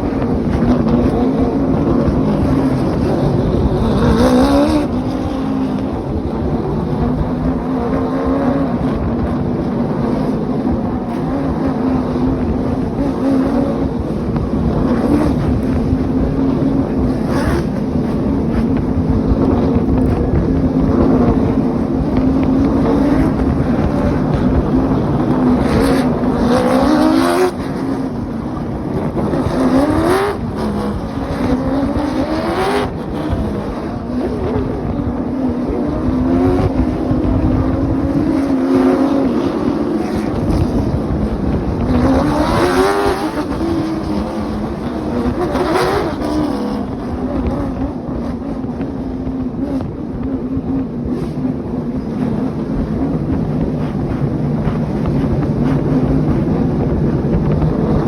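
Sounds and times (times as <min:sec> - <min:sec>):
race car engines droning and revving: 0:00.0 - 0:58.0.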